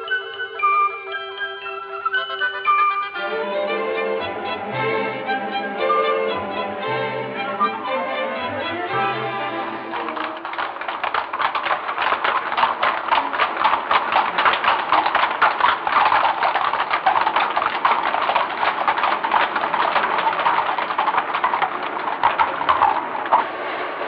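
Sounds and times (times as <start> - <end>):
horse hooves clip-clopping on cobblestones: 0.0 - 24.0.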